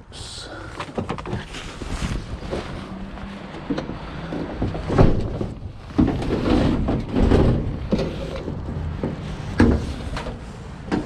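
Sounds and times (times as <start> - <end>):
clunks and rattles: 0.7 - 11.0.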